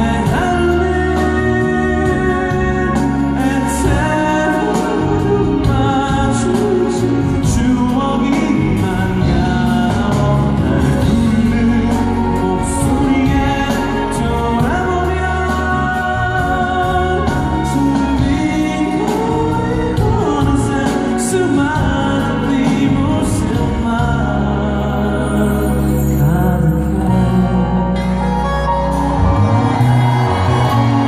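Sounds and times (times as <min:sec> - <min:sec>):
man singing with live band: 0:00.0 - 0:31.0.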